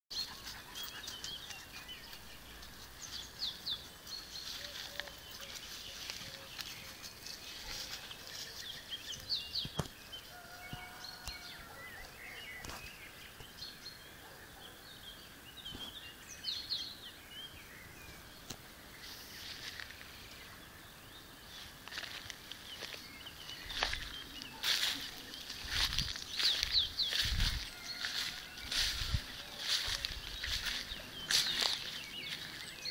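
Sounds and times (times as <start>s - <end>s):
songbirds chirping: 0.1s - 32.9s
steady outdoor hiss: 0.1s - 32.9s.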